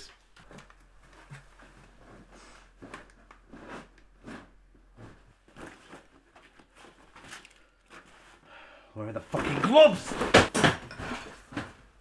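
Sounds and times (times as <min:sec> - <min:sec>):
clothing and objects rustling: 0:00.0 - 0:12.0.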